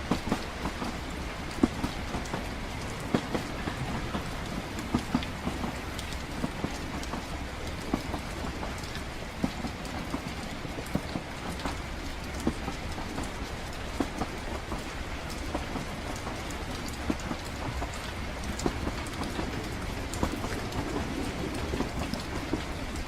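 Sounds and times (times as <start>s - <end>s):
rain falling: 0.0s - 23.0s
train rumble: 0.0s - 23.0s.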